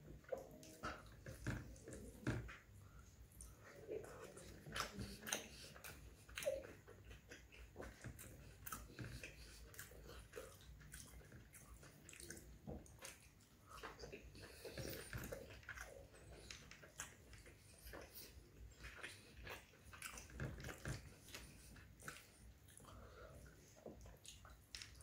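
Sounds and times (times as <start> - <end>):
chewing and wet mouth sounds: 0.0 - 25.0.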